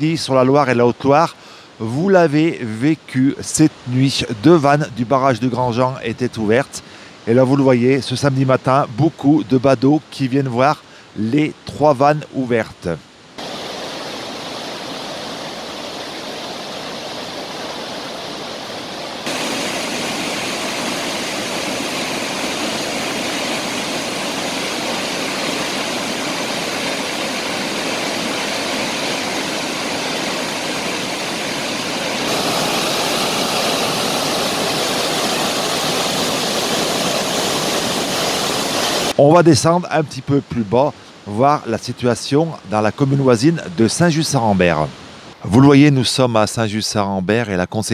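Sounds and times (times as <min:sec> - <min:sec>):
flood water roaring through spillway: 0:00.0 - 0:46.0.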